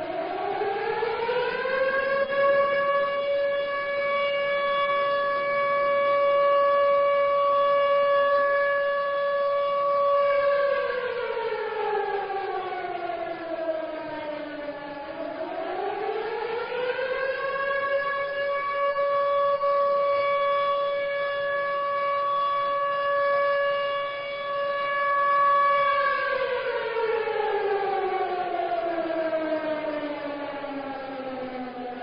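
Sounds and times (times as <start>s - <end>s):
air-defence siren: 0.0s - 32.0s.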